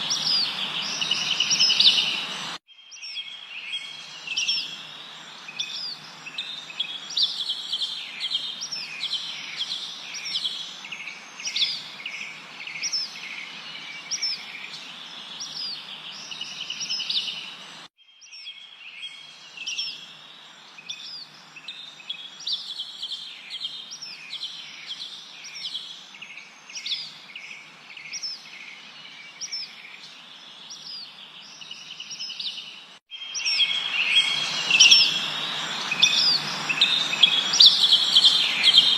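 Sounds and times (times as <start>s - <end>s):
constant hiss: 0.0s - 2.6s, 3.4s - 17.9s, 19.2s - 38.9s
songbirds chirping: 0.0s - 38.9s.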